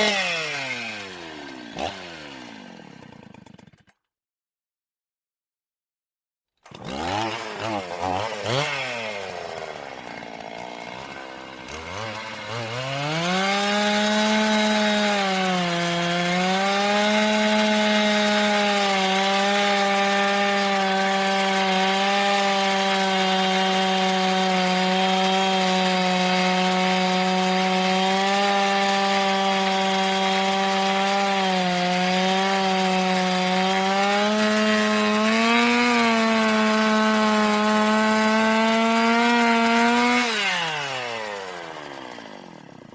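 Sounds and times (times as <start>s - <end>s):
chainsaw cutting wood: 0.0s - 4.0s, 6.6s - 42.9s.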